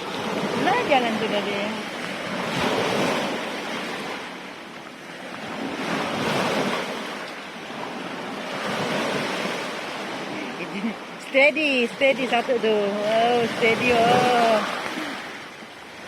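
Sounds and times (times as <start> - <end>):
sea waves washing in: 0.0 - 16.0.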